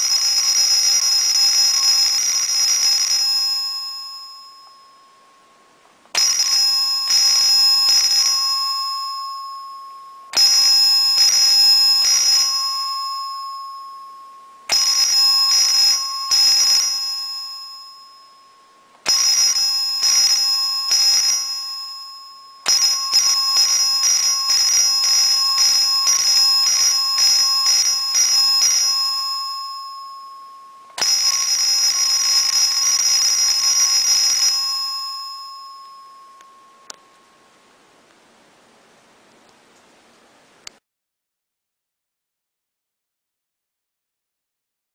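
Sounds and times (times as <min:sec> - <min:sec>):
electric fire alarm bell ringing: 0:00.0 - 0:37.5.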